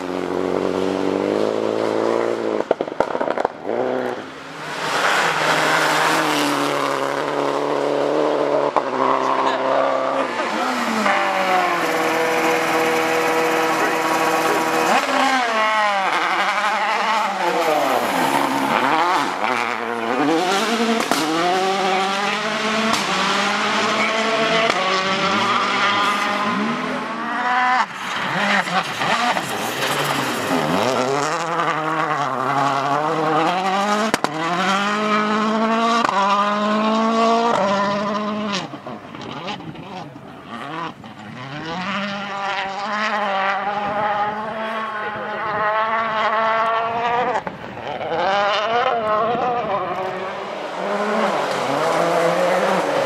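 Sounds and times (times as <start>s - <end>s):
rally car engines revving: 0.0s - 53.0s.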